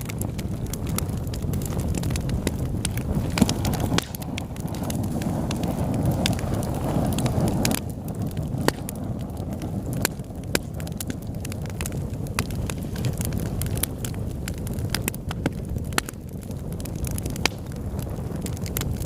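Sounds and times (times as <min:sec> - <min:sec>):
flames rushing: 0:00.0 - 0:19.0
wood fire pops and snaps: 0:00.0 - 0:19.0.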